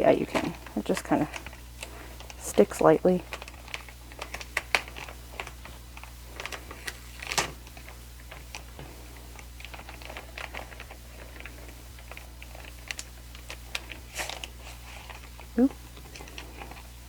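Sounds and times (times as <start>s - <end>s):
low steady hum: 0.0s - 17.0s
packaging clicks and rustles: 0.0s - 17.0s
packaging crinkle: 0.0s - 17.0s.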